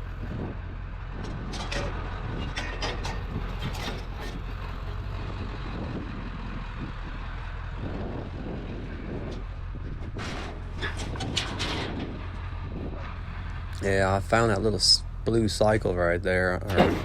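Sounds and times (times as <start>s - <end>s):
road noise: 0.0s - 17.0s
truck engine hum: 0.0s - 17.0s.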